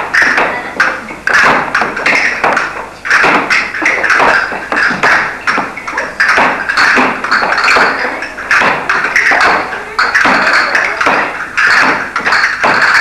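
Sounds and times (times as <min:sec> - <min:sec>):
thuds on a wooden floor: 0:00.0 - 0:13.0
castanets clicking: 0:00.1 - 0:13.0.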